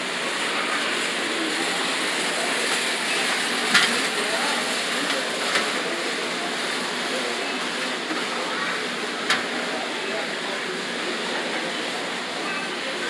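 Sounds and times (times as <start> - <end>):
busy store hubbub: 0.0 - 13.0
faint distant voices: 0.0 - 13.0.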